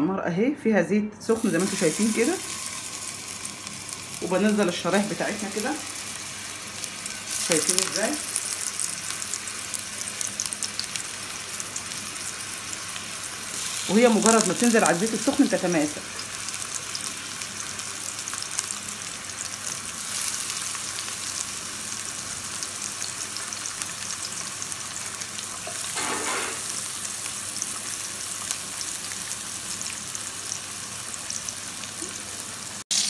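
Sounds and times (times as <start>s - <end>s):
meat sizzling in a pan: 1.4s - 33.0s.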